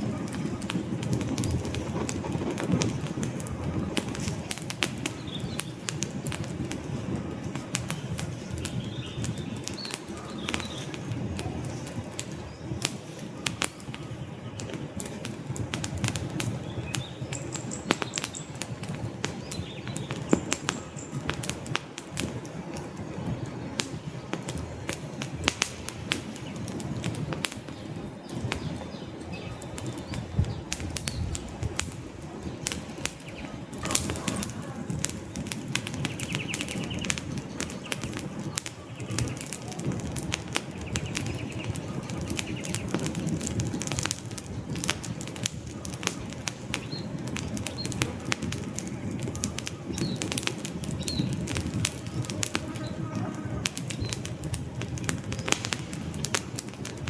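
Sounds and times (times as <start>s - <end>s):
fire popping and snapping: 0.0s - 57.0s
low rush of flames: 0.0s - 57.0s
wood fire crackling: 0.0s - 57.0s.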